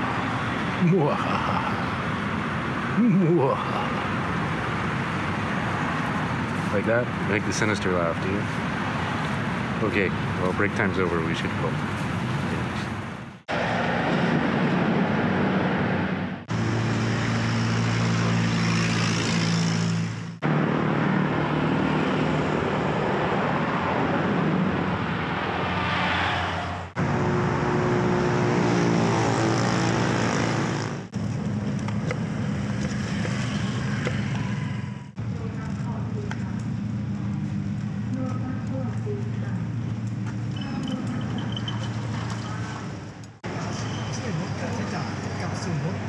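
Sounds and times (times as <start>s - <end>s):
road traffic noise: 0.0s - 46.0s.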